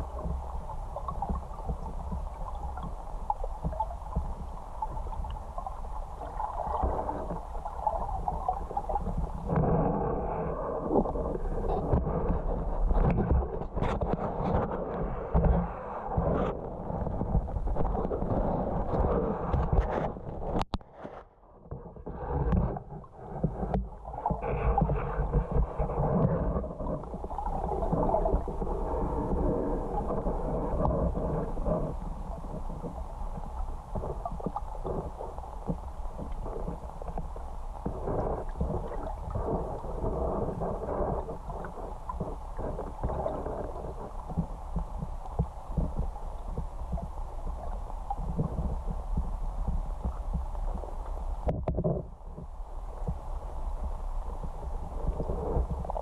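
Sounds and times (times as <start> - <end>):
muffled underwater rumbling: 0.0 - 56.0.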